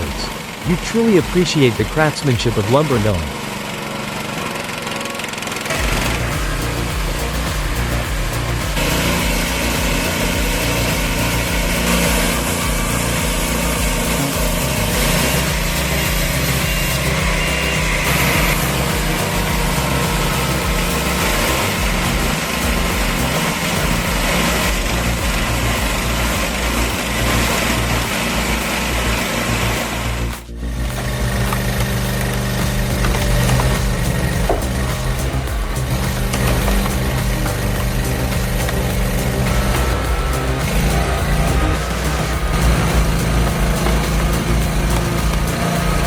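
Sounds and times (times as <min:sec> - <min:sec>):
engine-driven machine running: 0:00.0 - 0:46.0.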